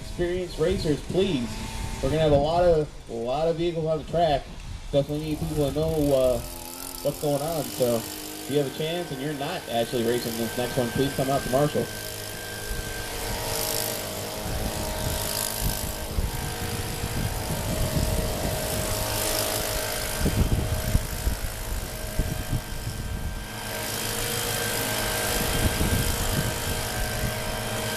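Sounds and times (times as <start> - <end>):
electric motor whine: 0.0 - 27.9.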